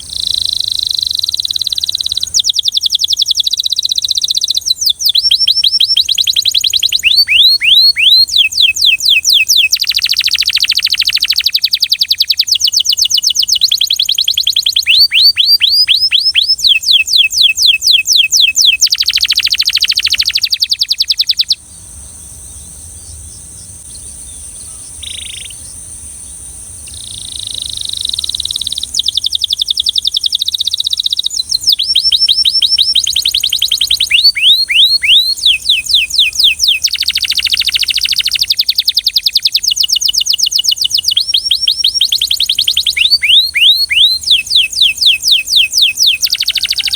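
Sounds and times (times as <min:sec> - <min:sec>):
canary singing: 0:00.0 - 0:25.8, 0:26.7 - 0:46.9.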